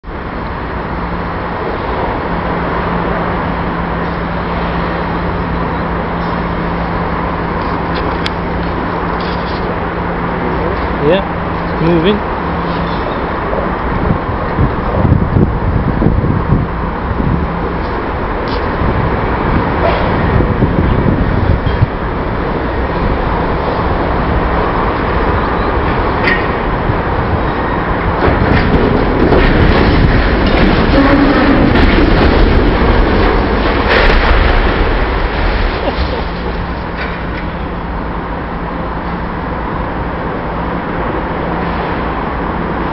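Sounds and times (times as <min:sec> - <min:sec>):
industrial machinery hum: 0:00.0 - 0:42.9
overhead crane rumbling: 0:00.0 - 0:42.9.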